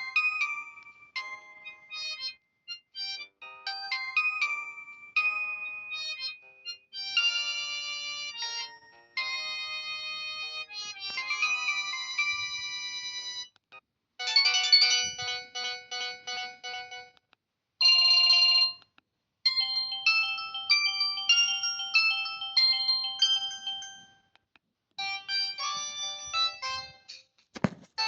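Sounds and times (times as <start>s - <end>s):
mobile phone ringtones: 0.0s - 13.5s, 14.2s - 17.2s, 17.8s - 18.9s, 19.5s - 24.3s, 25.0s - 27.2s.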